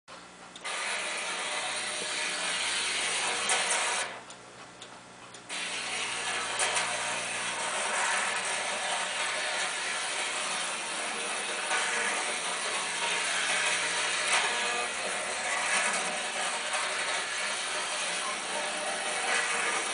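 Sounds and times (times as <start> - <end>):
model train rattling on track: 1.4 - 4.1, 5.5 - 19.9.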